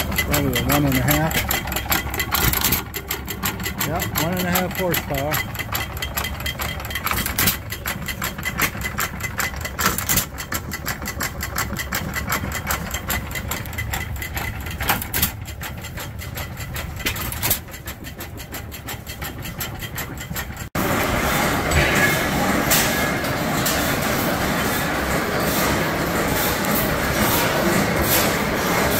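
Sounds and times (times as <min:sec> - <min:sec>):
antique gas engine running: 0:00.0 - 0:28.9.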